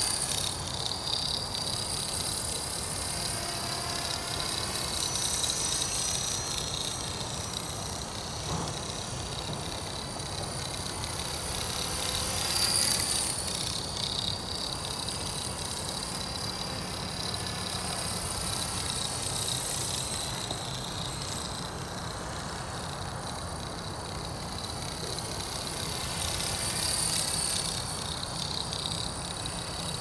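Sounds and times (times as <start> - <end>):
rc helicopter rotor whine: 0.0 - 30.0.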